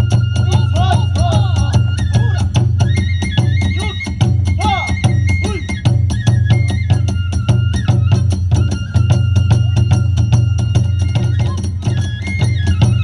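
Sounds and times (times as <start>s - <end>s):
drums beating fast: 0.0s - 13.0s
flute holding high notes: 0.0s - 13.0s.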